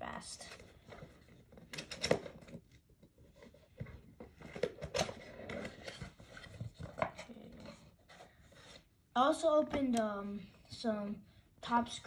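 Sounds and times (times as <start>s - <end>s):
cards and packaging rustling: 0.1s - 10.8s.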